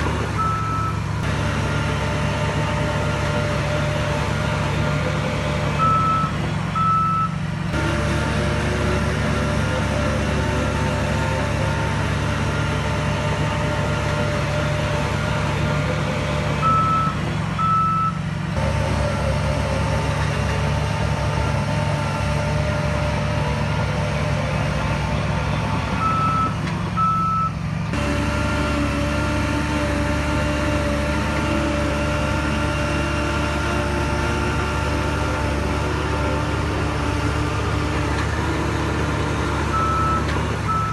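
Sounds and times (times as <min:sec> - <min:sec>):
diesel earth-moving machinery: 0:00.0 - 0:40.9.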